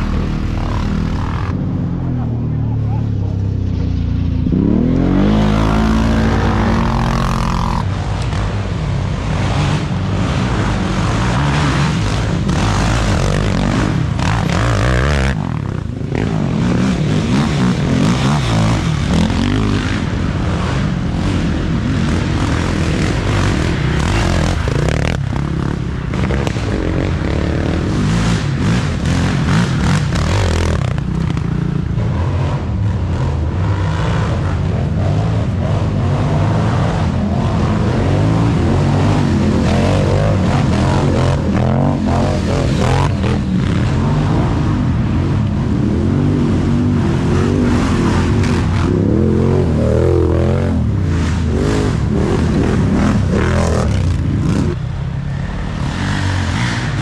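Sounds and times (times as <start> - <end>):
quad engines under hard throttle: 0.0 - 57.0.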